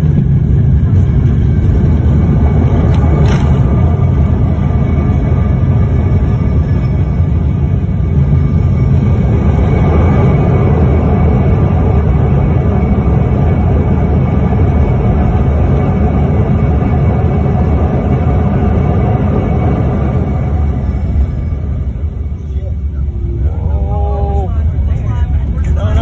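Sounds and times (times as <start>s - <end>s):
airliner engine rumble: 0.0s - 26.0s
faint whining tones: 0.0s - 26.0s.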